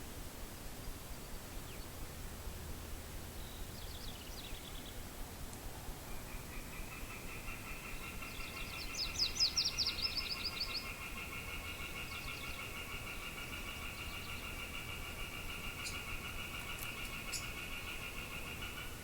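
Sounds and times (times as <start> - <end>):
soft wind: 0.0 - 19.0.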